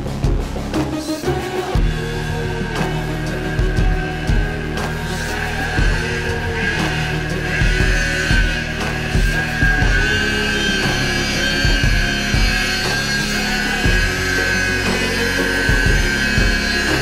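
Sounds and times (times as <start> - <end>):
heavy drum beat: 0.0 - 17.0
rock music: 0.0 - 17.0.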